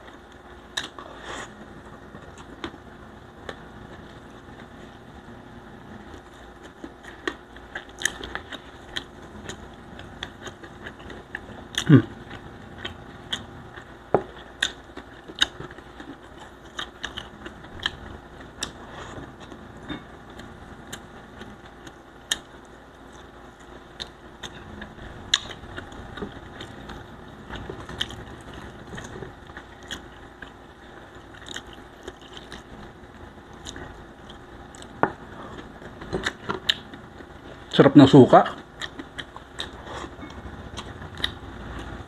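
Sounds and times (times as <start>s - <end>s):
chewing and mouth smacks: 6.1s - 37.7s, 38.6s - 42.0s.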